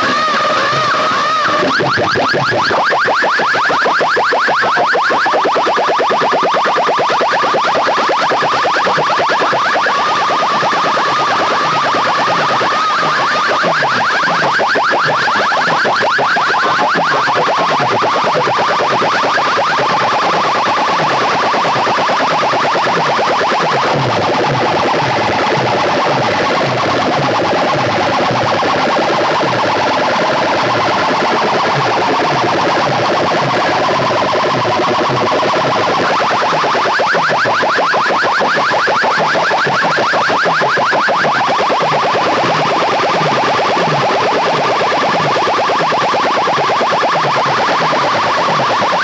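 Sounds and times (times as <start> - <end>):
pulsing siren-like sound effect: 0.0 - 49.0.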